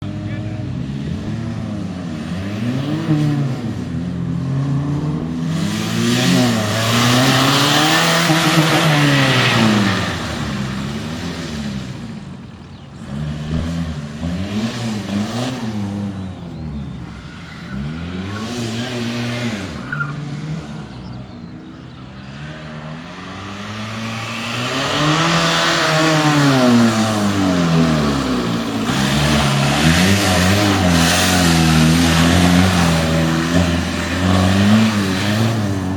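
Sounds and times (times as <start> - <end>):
diesel car engine revving: 0.0 - 35.9.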